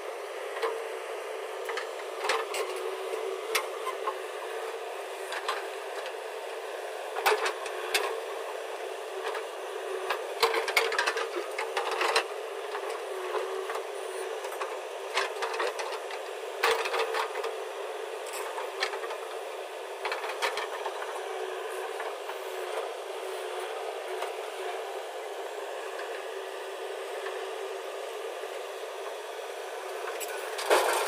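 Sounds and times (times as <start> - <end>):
backhoe engine running: 0.0 - 31.0.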